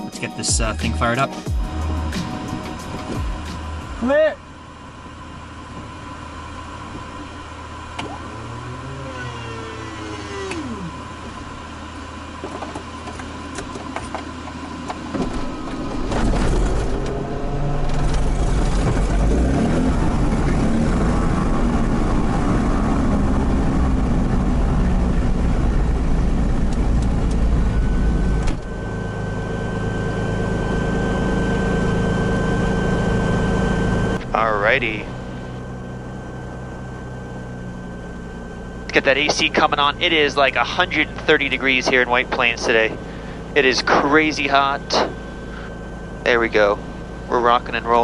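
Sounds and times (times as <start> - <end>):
aircraft piston engine starting: 0.1 - 48.0.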